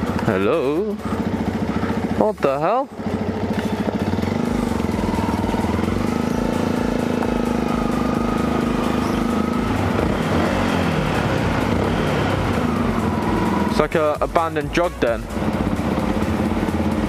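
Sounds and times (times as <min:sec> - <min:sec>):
motorcycle engine puttering: 0:00.0 - 0:17.0.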